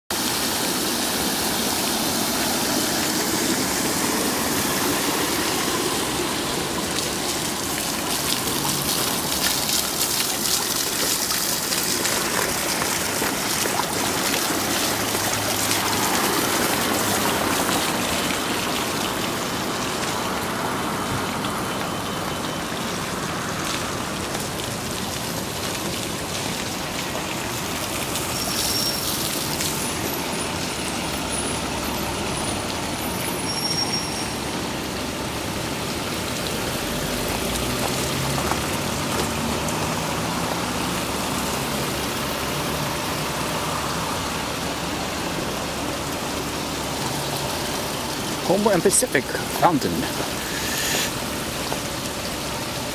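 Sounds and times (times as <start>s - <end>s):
fountain water splashing: 0.1s - 52.9s.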